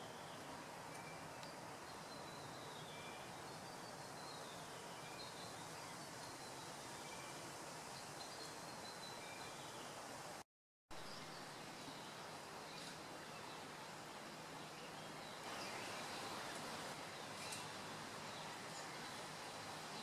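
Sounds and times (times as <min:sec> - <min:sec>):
garden background hiss: 0:00.0 - 0:20.0.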